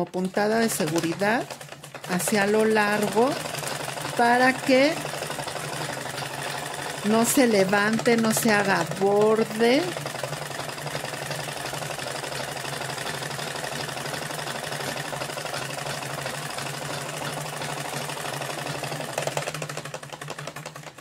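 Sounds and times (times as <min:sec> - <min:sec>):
sewing machine needle clatter: 0:00.0 - 0:21.0.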